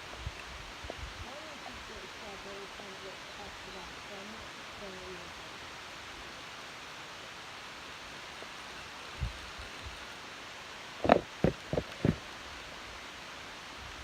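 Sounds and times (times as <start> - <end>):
outdoor hiss: 0.0 - 14.0.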